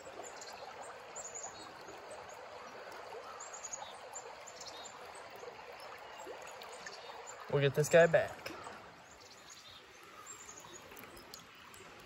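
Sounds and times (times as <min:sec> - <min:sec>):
river water running over riffle: 0:00.0 - 0:12.0.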